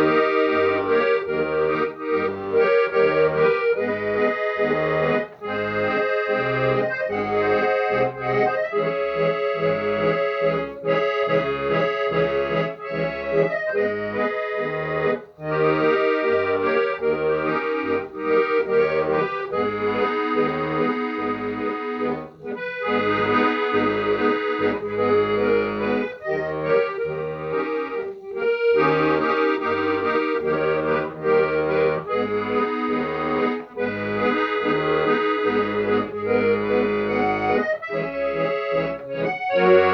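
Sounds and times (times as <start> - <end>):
accordion melody: 0.0 - 39.9.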